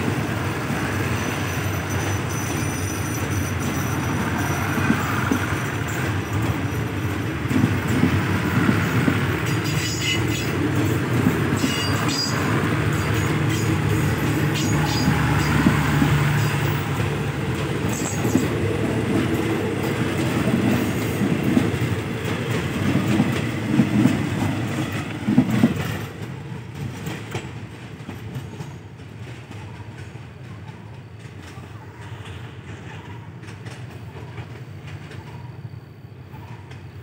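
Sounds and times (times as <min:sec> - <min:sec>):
train wheels clattering over rails: 0:00.0 - 0:35.5.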